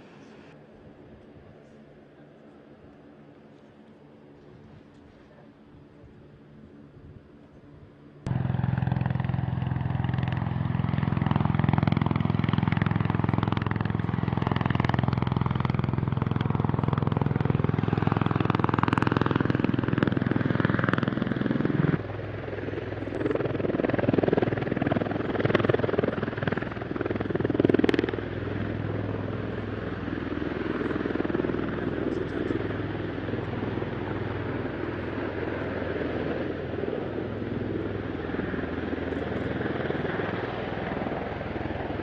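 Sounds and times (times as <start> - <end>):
tiltrotor aircraft engine drone: 0.0 - 42.0.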